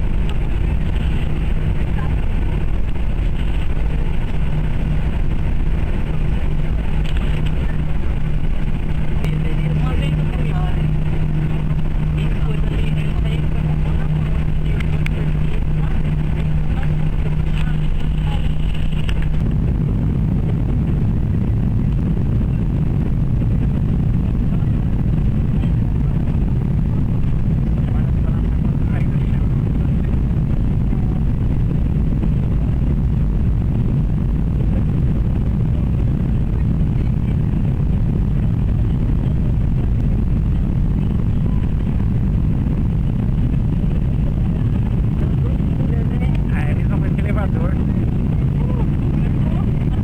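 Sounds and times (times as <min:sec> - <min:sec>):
aircraft engine drone in cabin: 0:00.0 - 0:50.0
steady hum: 0:00.0 - 0:50.0.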